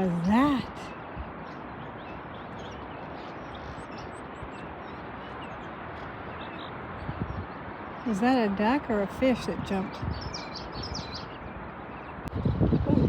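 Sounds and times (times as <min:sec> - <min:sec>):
outdoor background hiss: 0:00.0 - 0:12.6.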